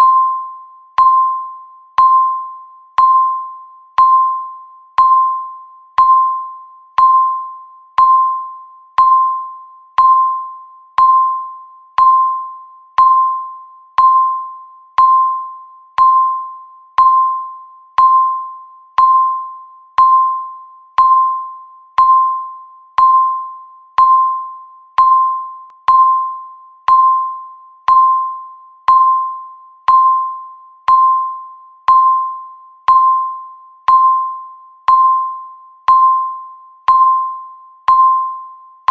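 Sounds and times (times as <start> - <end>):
short electronic timer beeps: 0.0 - 38.9.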